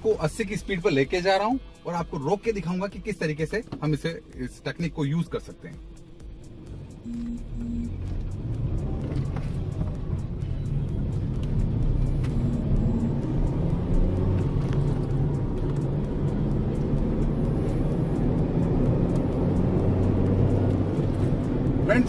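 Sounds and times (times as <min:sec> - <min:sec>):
car engine and tyre noise: 0:00.0 - 0:22.0.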